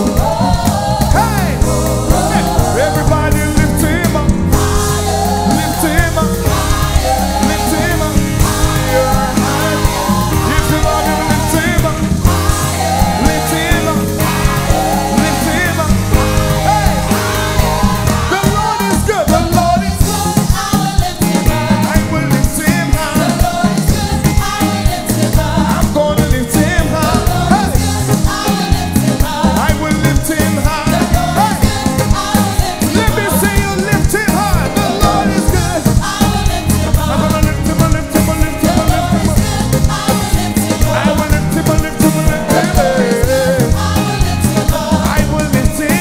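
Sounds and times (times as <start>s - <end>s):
backing vocalists singing: 0.0s - 46.0s
band playing gospel music: 0.0s - 46.0s
lead singer singing: 0.0s - 46.0s.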